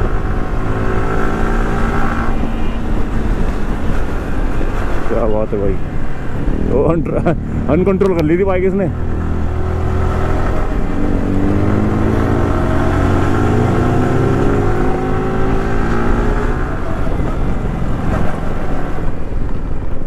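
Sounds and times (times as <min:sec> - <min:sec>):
motorcycle engine accelerating: 0:00.0 - 0:05.2, 0:05.9 - 0:19.3
wind rushing over microphone: 0:00.0 - 0:20.0.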